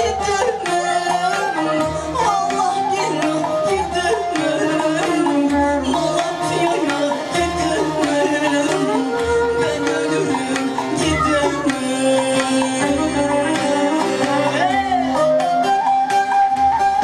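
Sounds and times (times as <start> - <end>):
woman singing: 0.0 - 15.7
hand drum beating: 0.0 - 17.0
plucked lute: 0.0 - 17.0.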